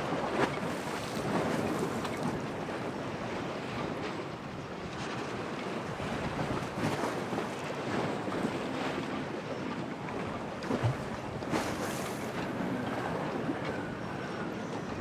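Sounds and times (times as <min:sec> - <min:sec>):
waves washing: 0:00.0 - 0:15.0
wind: 0:00.0 - 0:15.0.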